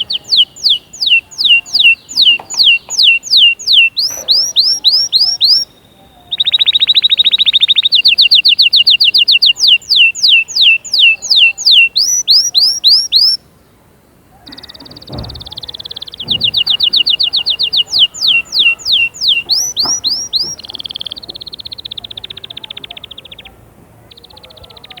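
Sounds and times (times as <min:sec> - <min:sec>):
canary singing: 0:00.0 - 0:25.0.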